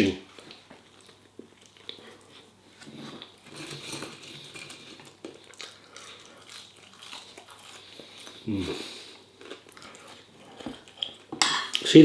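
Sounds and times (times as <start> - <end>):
chewing food: 0.3 - 11.9.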